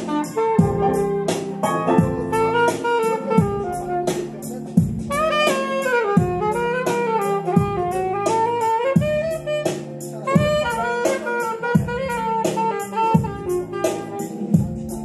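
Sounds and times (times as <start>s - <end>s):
drum kit beat: 0.0s - 15.0s
live jazz band playing: 0.0s - 15.0s
saxophone melody: 0.0s - 15.0s.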